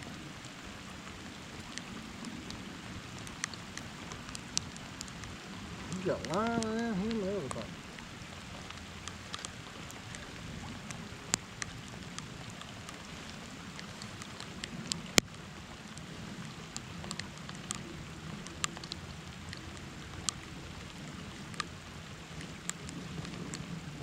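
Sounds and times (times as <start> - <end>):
light rain hiss: 0.0 - 24.0
raindrops ticking: 0.0 - 24.0.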